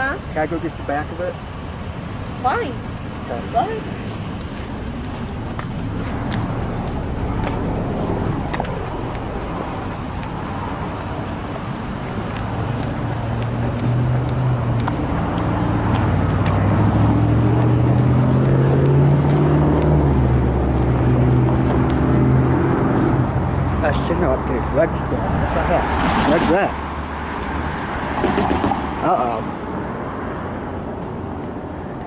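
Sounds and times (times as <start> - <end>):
engine running hum: 0.0 - 27.0
steady rumbling noise: 0.0 - 27.1.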